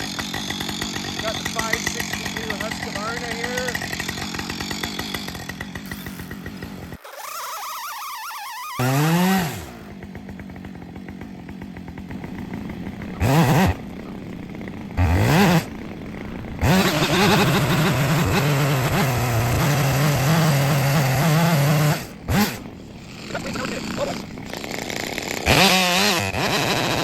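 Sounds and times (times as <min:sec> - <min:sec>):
chainsaw idling and revving: 0:00.0 - 0:27.0.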